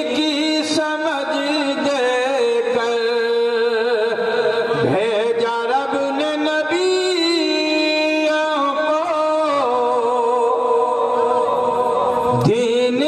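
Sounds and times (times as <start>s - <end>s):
man chanting through microphones: 0.0s - 13.0s.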